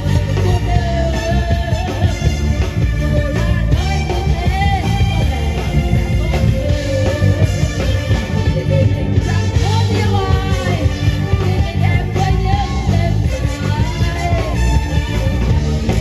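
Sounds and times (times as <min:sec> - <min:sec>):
upbeat song over speakers: 0:00.0 - 0:16.0.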